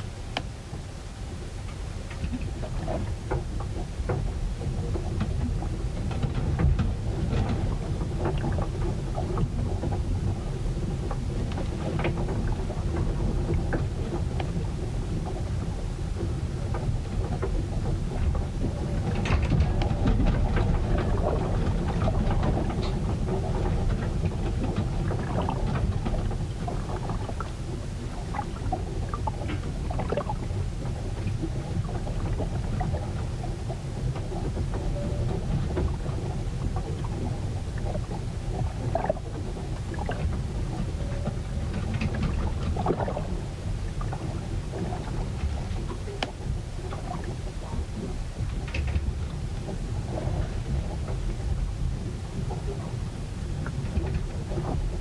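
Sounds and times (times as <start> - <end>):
low rumble of wind and sea: 0.0 - 55.0.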